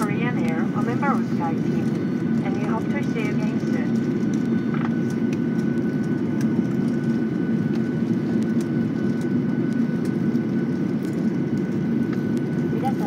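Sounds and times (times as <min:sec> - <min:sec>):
jet engine and airframe rumble: 0:00.0 - 0:13.0.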